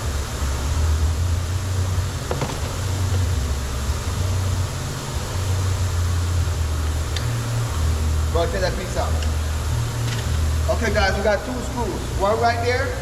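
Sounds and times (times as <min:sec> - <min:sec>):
low drone: 0:00.0 - 0:13.0.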